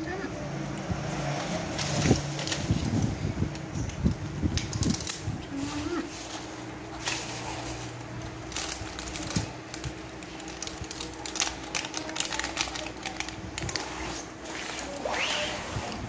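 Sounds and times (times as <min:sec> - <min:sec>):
plastic packet crinkling: 0:01.3 - 0:16.0.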